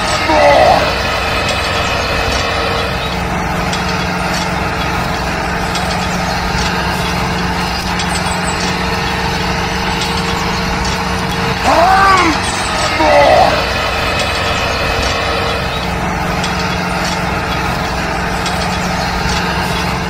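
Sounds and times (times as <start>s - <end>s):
tractor engine humming: 0.0s - 20.0s.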